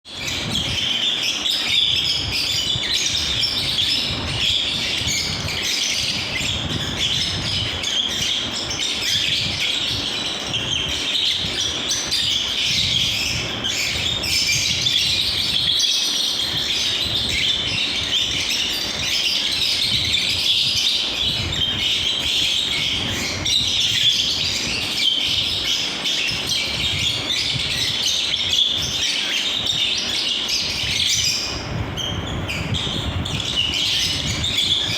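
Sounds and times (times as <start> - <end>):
lovebirds chirping: 0.1 - 34.9.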